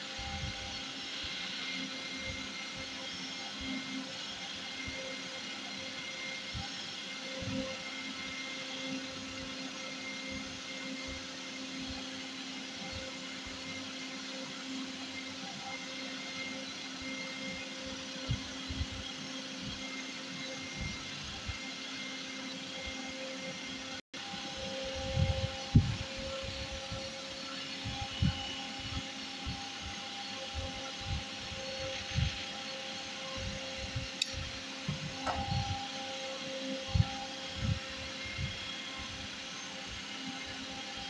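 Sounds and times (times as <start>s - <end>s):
machine whirring hum: 0.0s - 41.0s.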